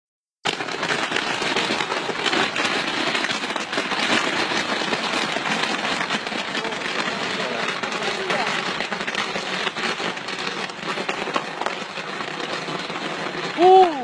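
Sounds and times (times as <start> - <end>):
fireworks crackling: 0.4 - 14.0.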